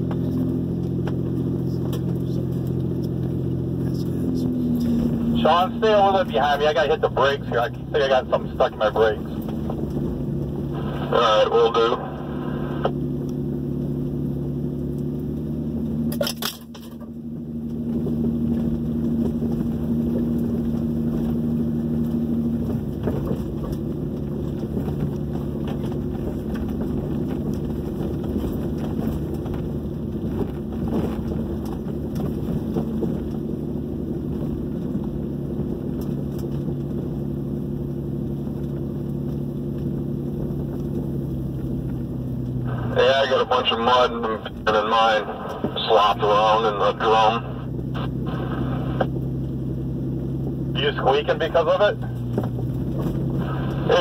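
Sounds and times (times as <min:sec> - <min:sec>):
truck engine running at low speed: 0:00.0 - 0:54.0.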